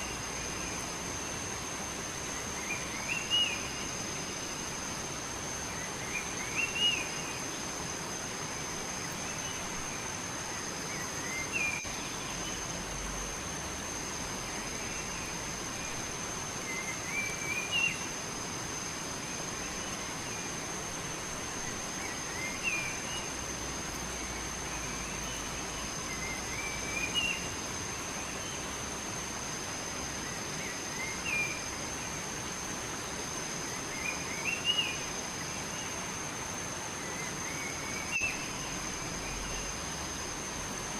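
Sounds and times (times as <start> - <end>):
outdoor hiss: 0.0 - 40.9.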